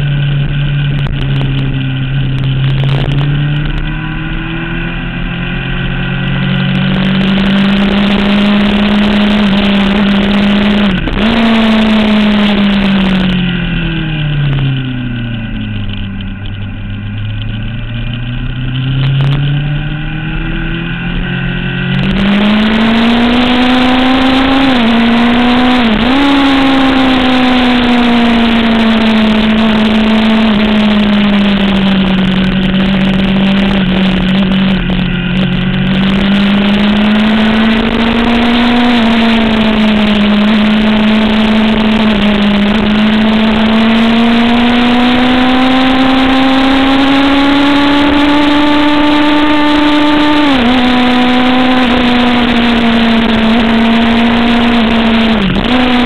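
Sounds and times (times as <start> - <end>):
motorcycle engine at racing speed: 0.0 - 56.0
wind rush: 0.0 - 56.0.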